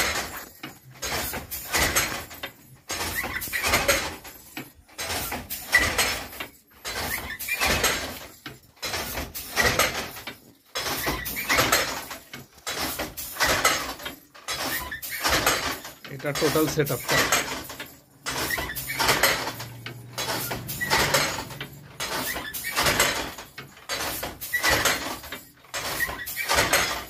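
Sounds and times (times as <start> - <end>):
handloom wooden clatter: 0.0 - 27.0.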